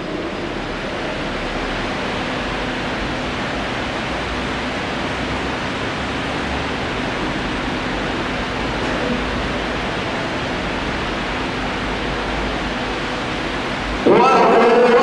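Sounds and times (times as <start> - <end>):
steady hiss-like noise: 0.0 - 15.0.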